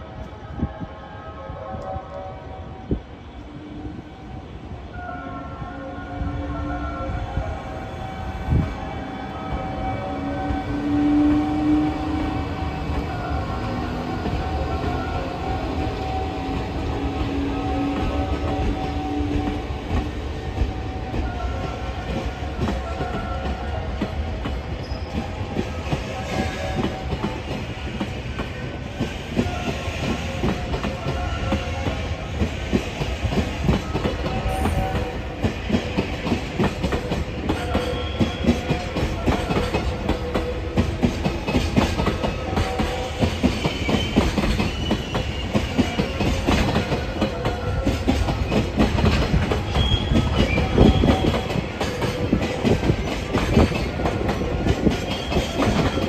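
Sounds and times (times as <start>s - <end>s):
low train rumble: 0.0s - 56.0s.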